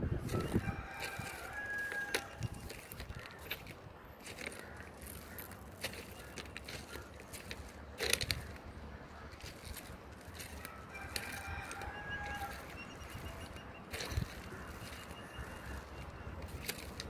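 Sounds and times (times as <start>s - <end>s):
bird calling: 0.0s - 17.0s
outdoor background noise: 0.0s - 17.0s.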